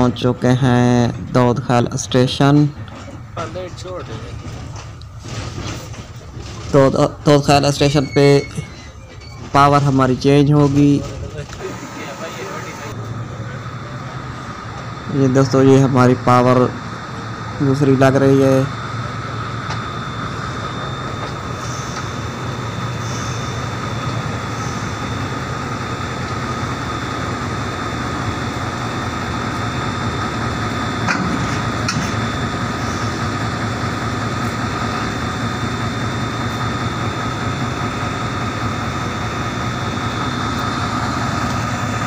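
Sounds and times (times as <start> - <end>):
diesel locomotive engine humming: 0.0 - 42.0.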